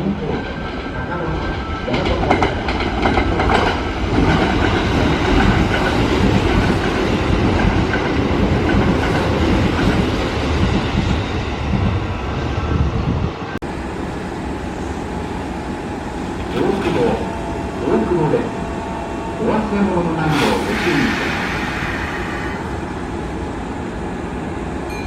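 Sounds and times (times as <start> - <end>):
electric train rumbling past: 0.0 - 25.0.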